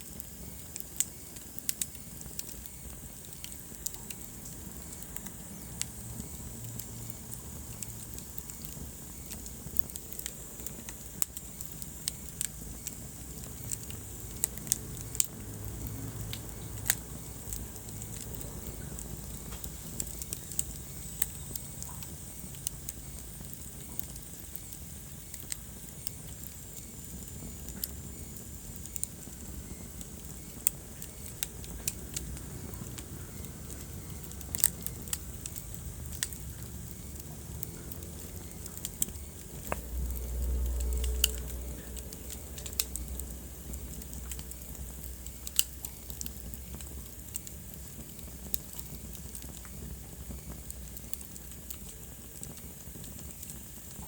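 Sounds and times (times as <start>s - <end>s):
fire rumbling: 0.0s - 54.0s
wood fire crackling and popping: 0.0s - 54.0s.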